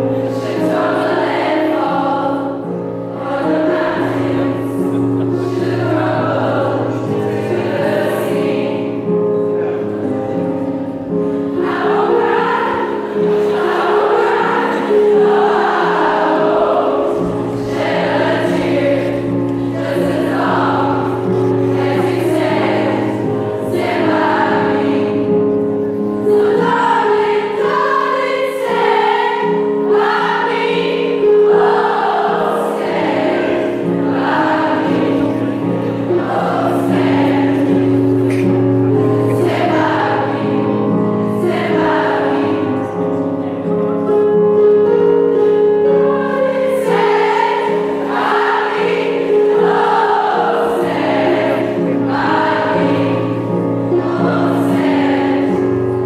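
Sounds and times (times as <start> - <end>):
girls choir singing: 0.0 - 56.0.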